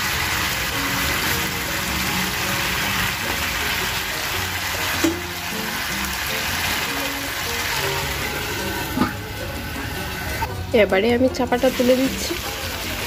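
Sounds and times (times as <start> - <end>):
chicken sizzling in pan: 0.0 - 10.9, 11.5 - 13.0
background music: 0.0 - 13.0.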